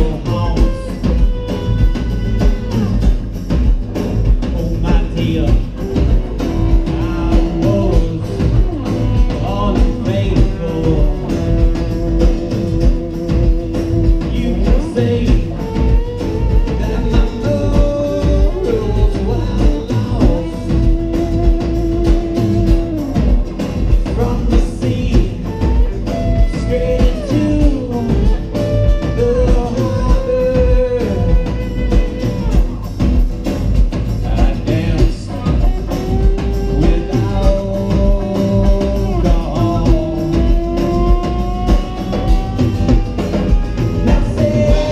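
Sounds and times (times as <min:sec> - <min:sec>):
drum kit beat: 0:00.0 - 0:44.9
live rock band playing: 0:00.0 - 0:44.9.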